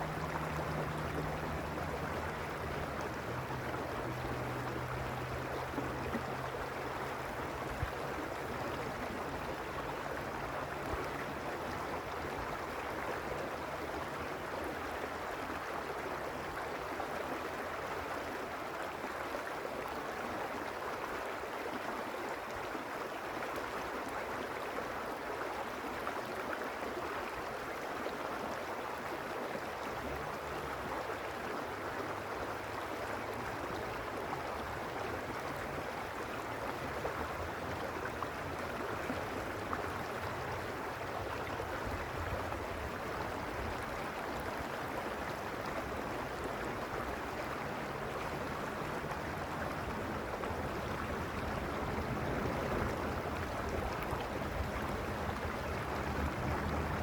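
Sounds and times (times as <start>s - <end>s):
stream rushing over stones: 0.0s - 57.0s.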